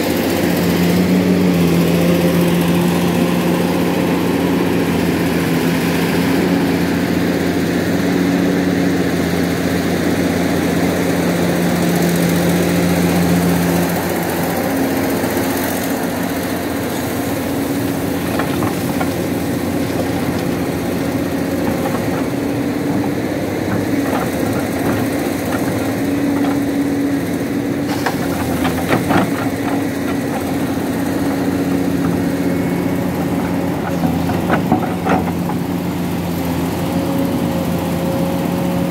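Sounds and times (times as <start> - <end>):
diesel engines humming: 0.0 - 38.9.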